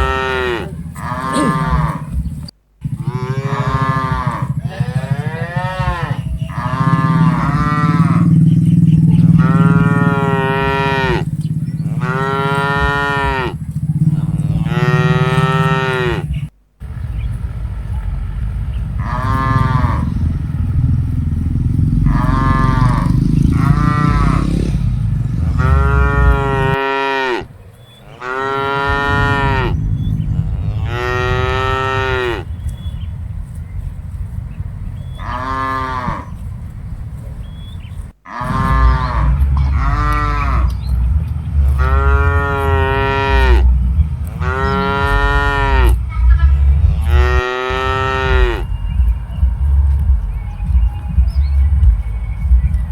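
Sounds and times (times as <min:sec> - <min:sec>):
cattle mooing: 0:00.0 - 0:16.5, 0:17.5 - 0:33.1, 0:35.0 - 0:36.4, 0:38.2 - 0:50.1
loud low rumbling: 0:00.0 - 0:52.9.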